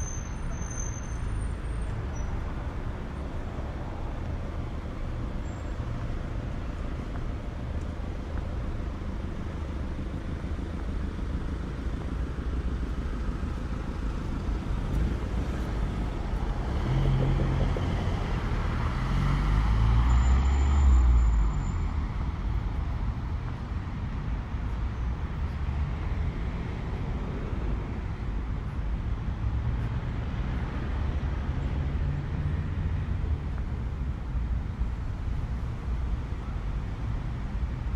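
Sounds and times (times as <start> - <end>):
street traffic rumbling: 0.0 - 37.9.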